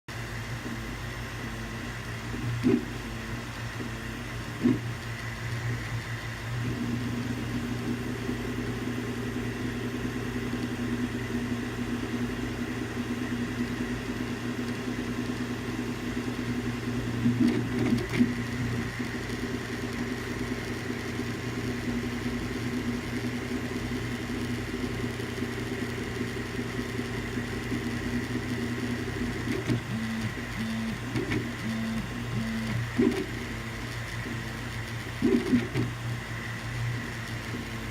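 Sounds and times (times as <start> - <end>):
cooling fans humming: 0.1 - 37.9
stepper motor tones: 0.1 - 37.9.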